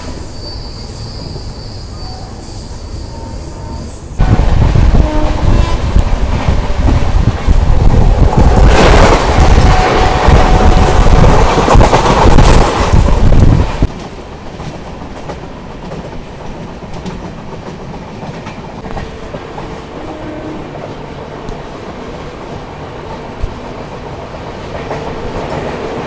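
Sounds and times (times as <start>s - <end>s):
rush of wind and rail noise: 0.0s - 26.0s
train passing close: 0.0s - 26.0s.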